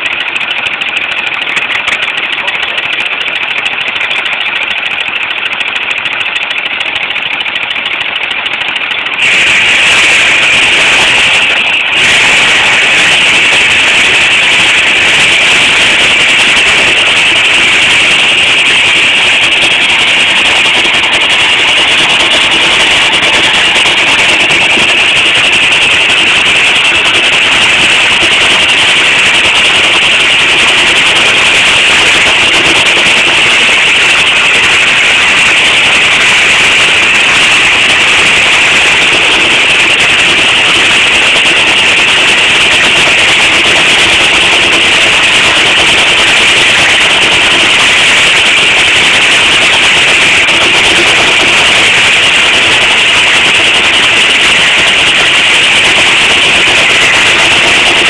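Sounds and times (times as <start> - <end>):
sawmill saw running: 0.0 - 58.0
steam traction engine running: 0.0 - 58.0.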